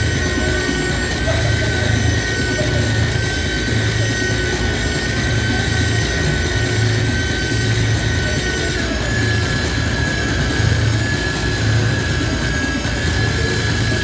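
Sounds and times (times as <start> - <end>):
pulsing low hum: 0.0 - 14.0
sustained high tones: 0.0 - 14.0.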